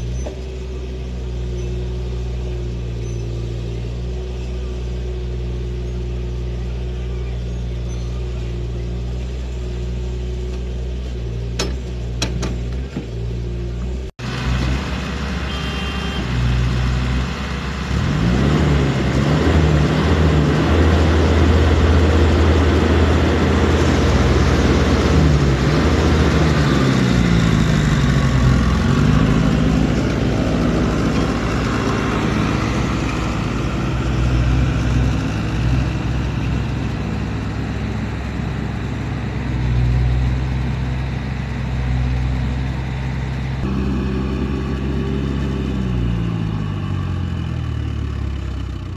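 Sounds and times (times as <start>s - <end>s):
diesel truck engine revving: 0.0s - 48.9s.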